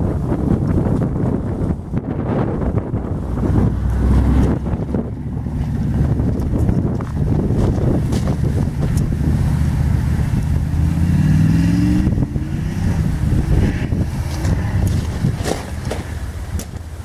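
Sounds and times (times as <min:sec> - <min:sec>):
truck engine revving: 0:00.0 - 0:17.0
wind noise on microphone: 0:00.0 - 0:17.0.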